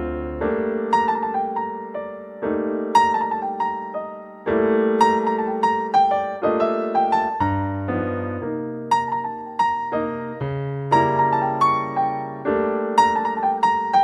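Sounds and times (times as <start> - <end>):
lively piano music: 0.0 - 14.0.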